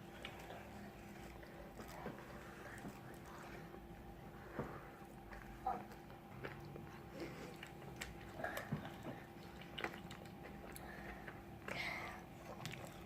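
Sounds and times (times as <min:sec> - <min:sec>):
faint chewing with crunches: 0:00.0 - 0:13.0.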